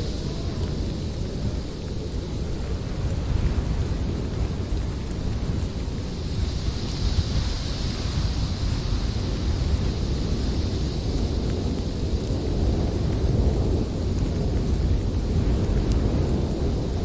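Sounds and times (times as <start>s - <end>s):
strong storm wind blowing: 0.0s - 17.0s.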